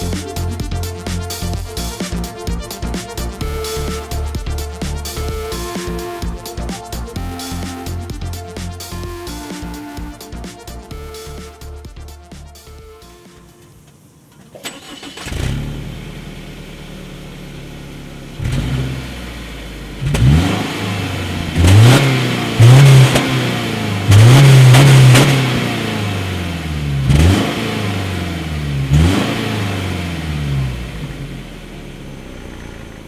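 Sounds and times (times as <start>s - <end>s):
car engine starting and revving: 0.0s - 33.0s.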